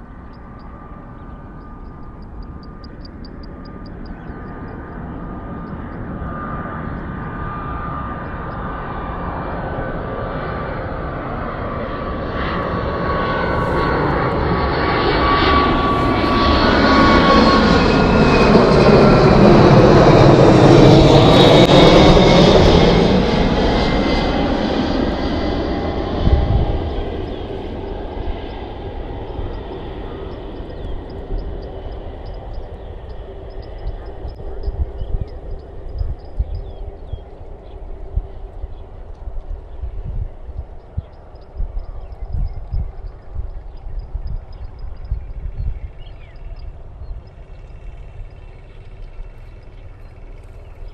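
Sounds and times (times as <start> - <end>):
airliner engines passing: 0.0 - 50.9.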